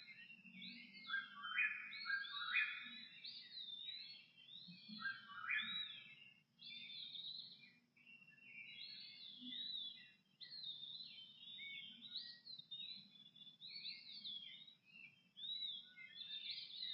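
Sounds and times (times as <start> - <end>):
robin singing whistled phrases: 0.0 - 16.9.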